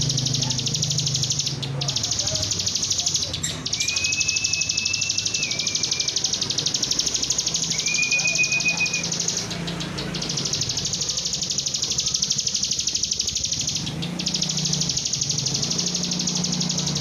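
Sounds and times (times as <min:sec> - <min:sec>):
bird singing fast trill: 0:00.0 - 0:17.0.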